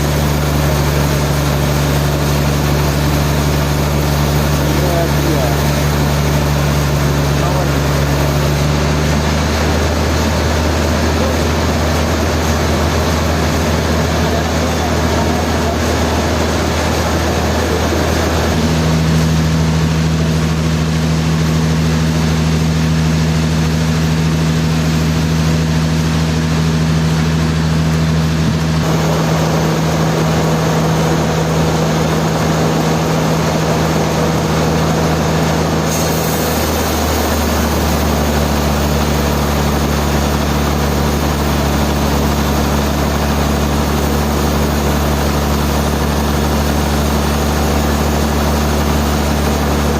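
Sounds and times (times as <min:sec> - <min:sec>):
sawmill machinery humming: 0:00.0 - 0:49.9.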